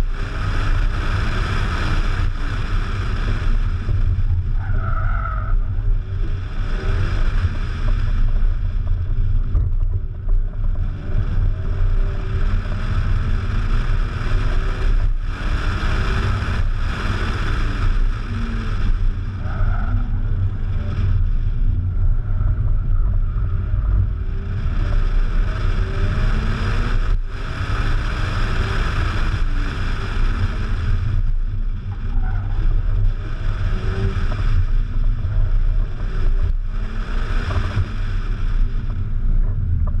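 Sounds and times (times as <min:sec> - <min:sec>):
car engine revving: 0:00.0 - 0:40.0
wind rumble on microphone: 0:00.0 - 0:40.0.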